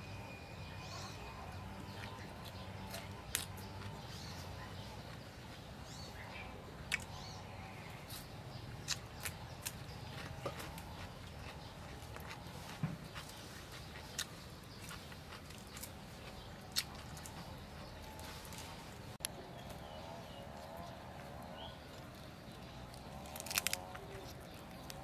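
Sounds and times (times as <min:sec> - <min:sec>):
shrimp peeling and chewing crackles: 0:01.8 - 0:05.6, 0:06.2 - 0:25.0.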